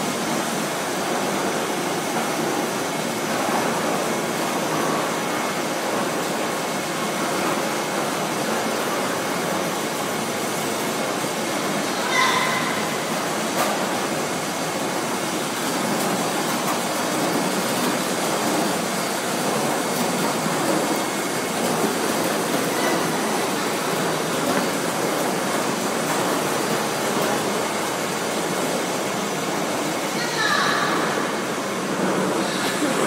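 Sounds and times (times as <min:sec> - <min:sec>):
production line machinery din: 0:00.0 - 0:33.0.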